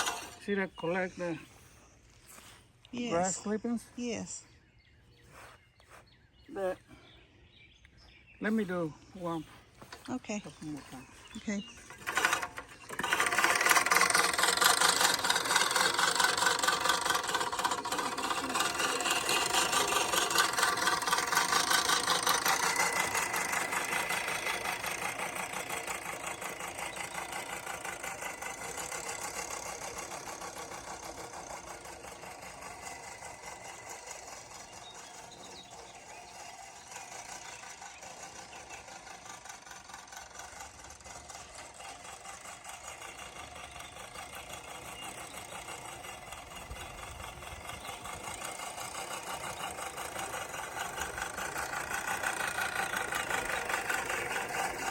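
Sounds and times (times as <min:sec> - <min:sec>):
lawn mower running: 0:00.0 - 0:54.9.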